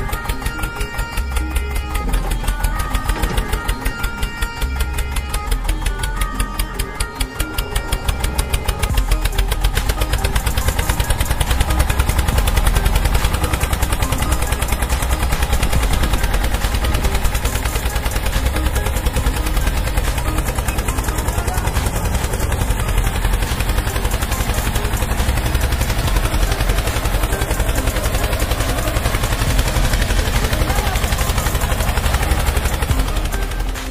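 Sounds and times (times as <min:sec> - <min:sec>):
toy tractor engine chugging: 0:00.0 - 0:33.9.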